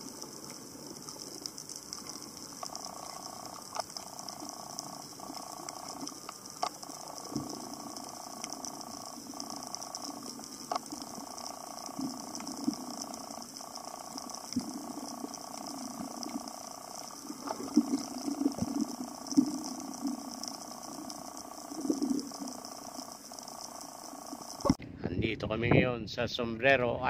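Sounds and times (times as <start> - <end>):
sharp clicks and crackles: 0.0 - 24.8
underwater droning hum: 0.0 - 24.8.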